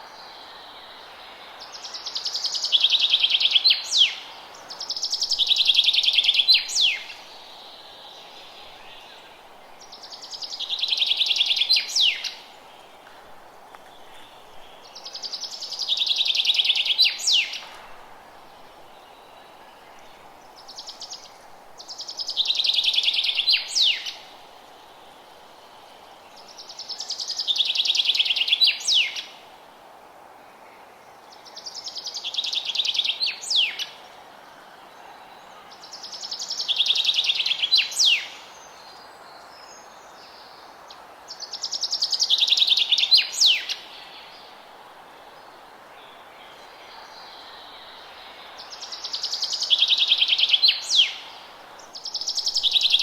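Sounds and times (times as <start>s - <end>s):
songbird singing trill: 0.0s - 13.0s, 13.8s - 17.9s, 18.6s - 24.4s, 26.3s - 29.4s, 31.4s - 34.1s, 34.7s - 53.0s
low ambient hiss: 0.0s - 53.0s.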